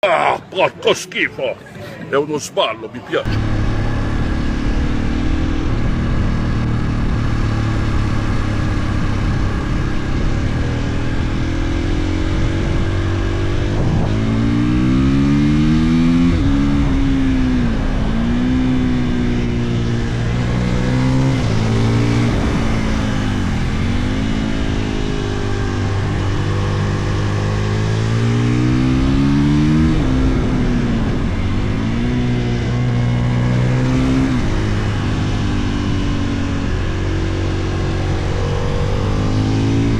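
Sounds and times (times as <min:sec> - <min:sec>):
motorcycle engine revving: 0:03.2 - 0:39.9.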